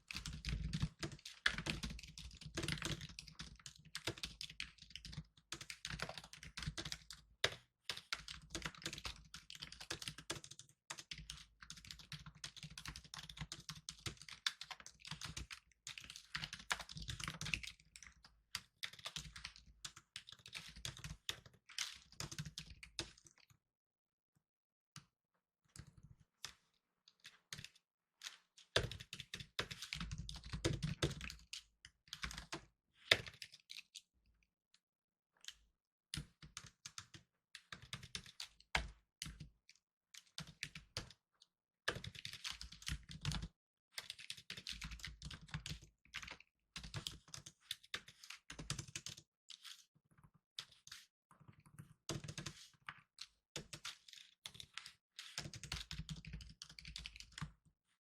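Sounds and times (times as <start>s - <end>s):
fast typing on laptop keyboard: 0.0s - 23.4s, 27.3s - 33.9s, 36.2s - 39.5s, 40.2s - 41.2s, 41.9s - 49.8s, 50.6s - 57.6s.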